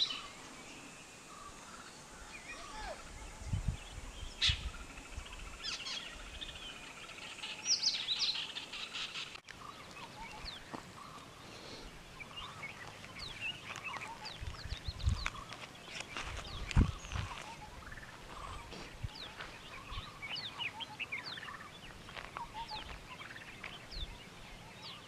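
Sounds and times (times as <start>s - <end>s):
birds chirping and whistling: 0.0s - 25.0s.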